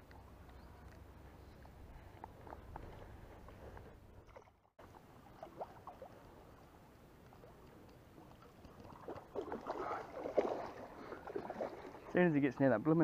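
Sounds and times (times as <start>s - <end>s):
water splashing and lapping: 0.0s - 12.7s.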